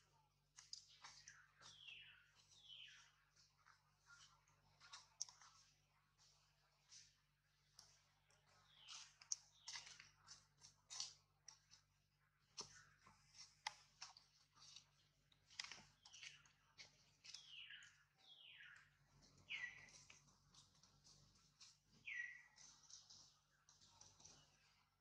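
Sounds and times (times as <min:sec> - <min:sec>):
leaves and twigs crackling: 0:00.5 - 0:24.8.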